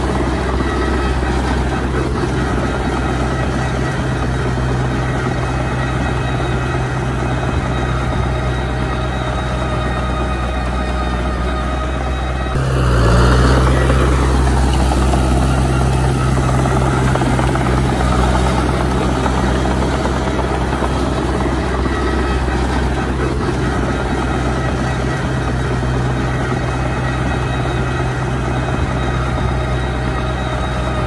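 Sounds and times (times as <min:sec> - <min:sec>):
bulldozer diesel engine droning: 0:00.0 - 0:31.0.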